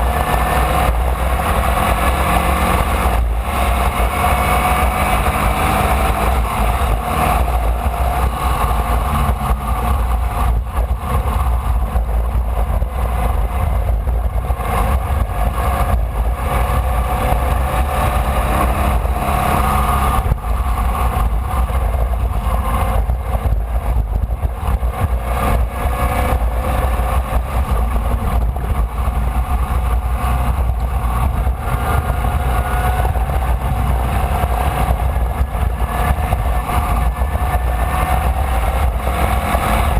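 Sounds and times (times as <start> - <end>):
heavy low rumble: 0.0 - 39.9
race car engine revving: 0.0 - 39.9.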